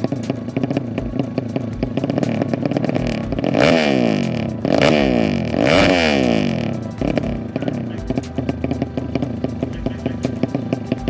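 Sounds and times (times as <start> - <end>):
motorcycle engine choppy idle: 0.0 - 11.0
motorcycle engine revving: 0.0 - 11.0.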